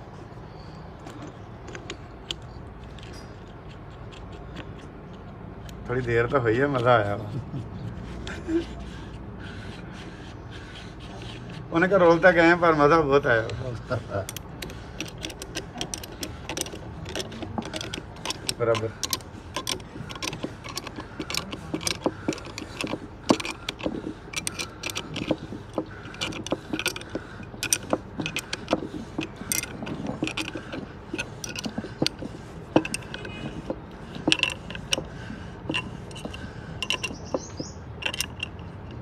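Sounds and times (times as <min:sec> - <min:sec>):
spanner clicking and knocking on metal: 0:01.0 - 0:07.2, 0:10.7 - 0:39.0
spanner ratcheting: 0:01.0 - 0:07.2, 0:10.2 - 0:39.0.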